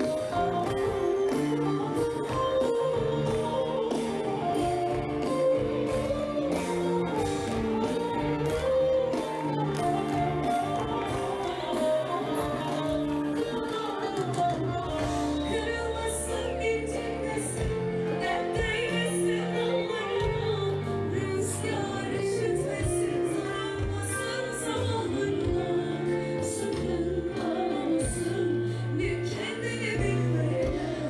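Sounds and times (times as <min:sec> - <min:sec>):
live band music: 0:00.0 - 0:31.0.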